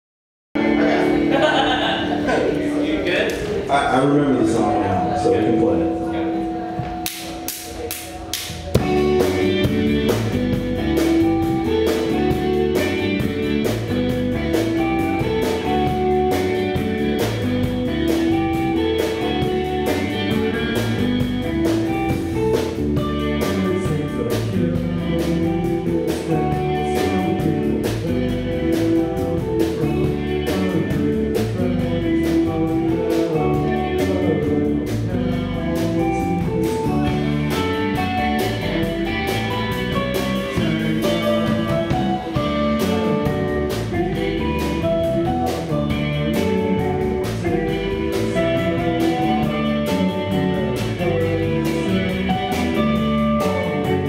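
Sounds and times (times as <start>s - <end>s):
live rock band playing: 0.6s - 54.0s.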